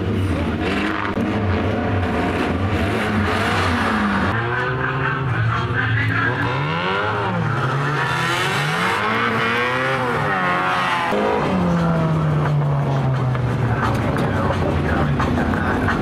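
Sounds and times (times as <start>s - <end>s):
race car engines revving: 0.0s - 16.0s.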